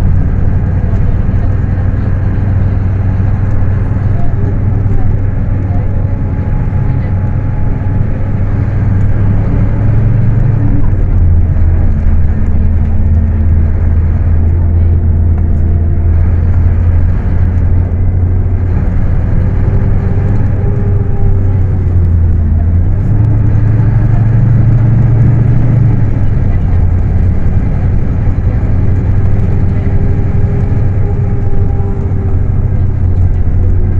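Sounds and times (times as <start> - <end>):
bus diesel engine drone: 0.0 - 33.9.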